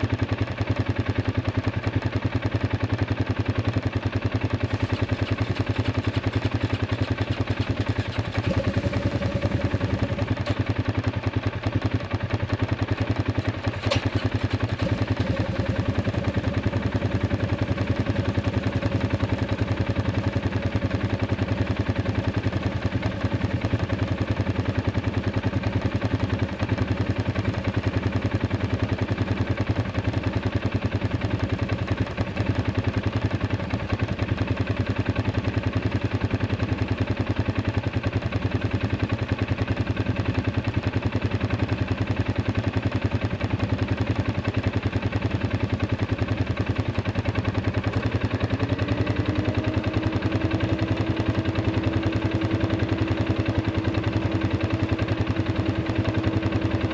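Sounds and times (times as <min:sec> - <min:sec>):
atv engine idling: 0:00.0 - 0:56.9.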